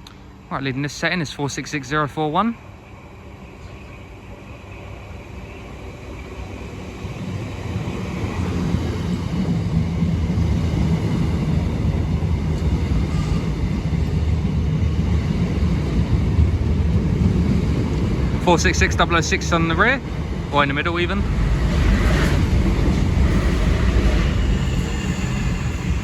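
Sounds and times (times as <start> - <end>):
electric train rumbling: 0.0 - 26.0.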